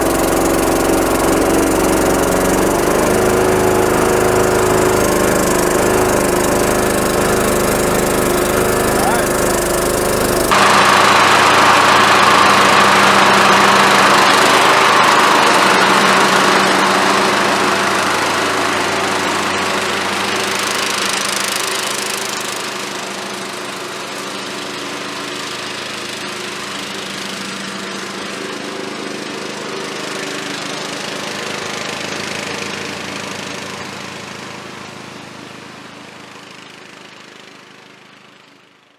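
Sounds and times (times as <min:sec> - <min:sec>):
lawn mower engine running: 0:00.0 - 0:38.5.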